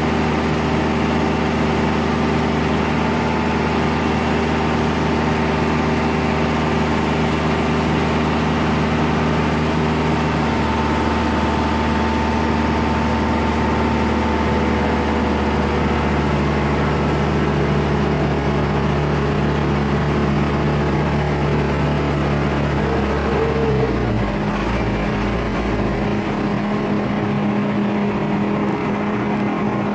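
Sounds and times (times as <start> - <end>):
crane diesel engine running: 0.0 - 29.9.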